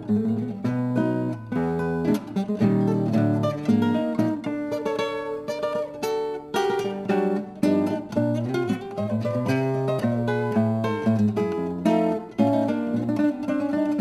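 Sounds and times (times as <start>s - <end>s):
classical guitars playing tango: 0.0s - 14.0s.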